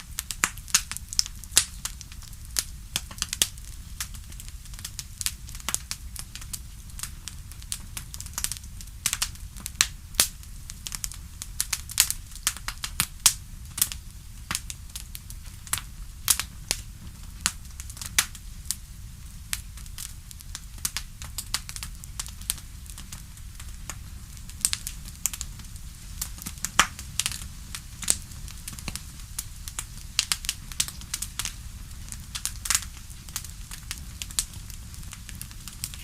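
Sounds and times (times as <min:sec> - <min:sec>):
campfire crackling and popping: 0:00.0 - 0:36.0
low rumble of flames: 0:00.0 - 0:36.0.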